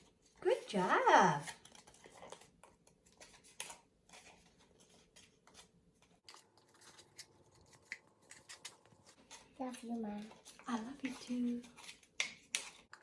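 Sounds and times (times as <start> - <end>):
paper rustling: 1.2 - 13.0.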